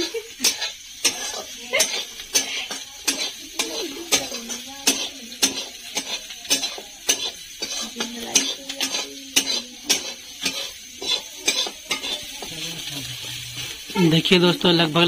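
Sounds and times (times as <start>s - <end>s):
onions sizzling in oil: 0.0s - 15.0s
utensil knocking and scraping pan: 0.4s - 14.0s.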